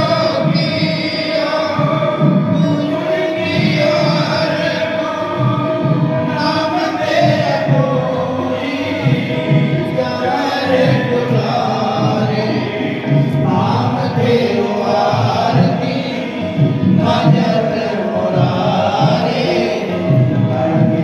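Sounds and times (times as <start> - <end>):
musical accompaniment: 0.0 - 21.0
voices singing a hymn: 0.0 - 21.0.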